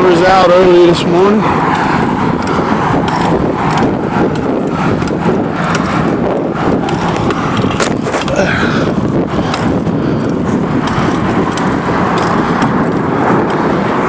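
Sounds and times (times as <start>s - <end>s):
wind rumbling on microphone: 0.0s - 14.0s
bicycle clicks and knocks: 1.5s - 14.0s.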